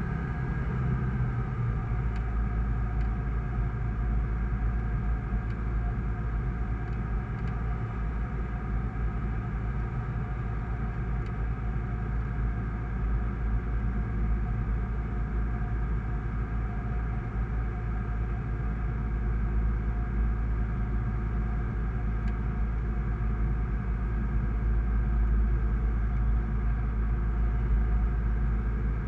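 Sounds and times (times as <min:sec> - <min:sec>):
light aircraft engine and propeller: 0:00.0 - 0:29.0.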